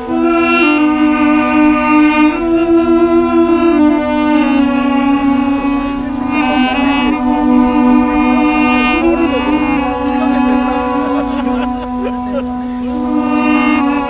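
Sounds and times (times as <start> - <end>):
duduks playing slow melody: 0.0 - 14.0
low drone note: 0.0 - 14.0.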